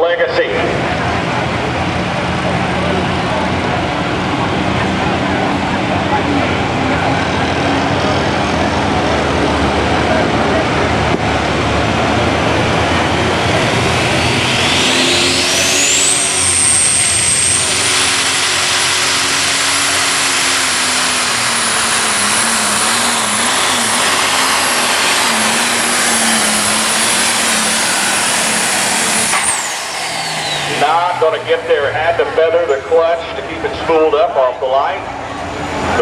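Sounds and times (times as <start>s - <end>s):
tractor engine drone: 0.0s - 36.0s
turbocharger whine: 0.0s - 36.0s.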